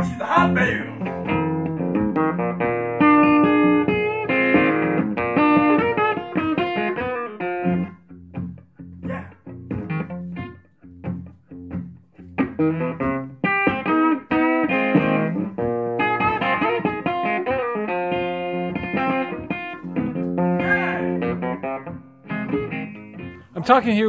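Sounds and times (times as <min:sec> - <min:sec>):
blues guitar playing: 0:00.0 - 0:24.0.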